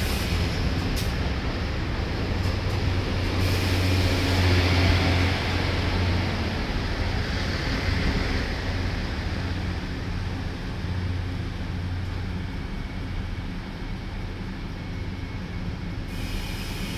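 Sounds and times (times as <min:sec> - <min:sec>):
diesel train rumbling: 0:00.0 - 0:16.9.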